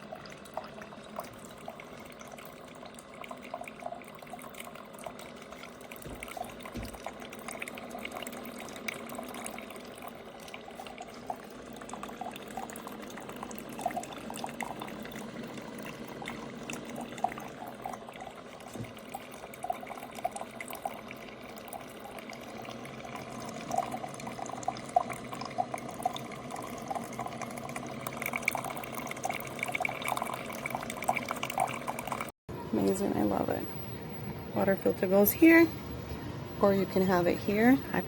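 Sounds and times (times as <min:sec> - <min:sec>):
coffee maker water gurgling: 0:00.0 - 0:38.0.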